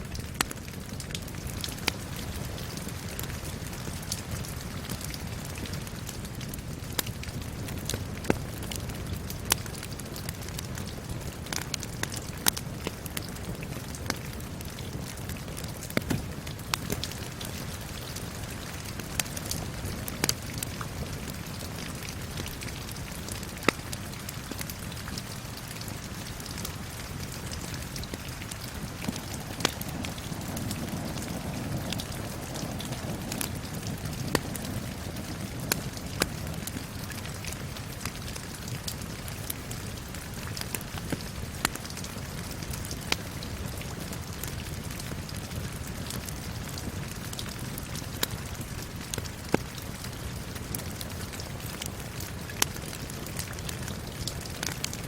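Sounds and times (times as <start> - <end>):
steady rain falling: 0.0 - 55.0
wood fire crackling: 0.0 - 55.0.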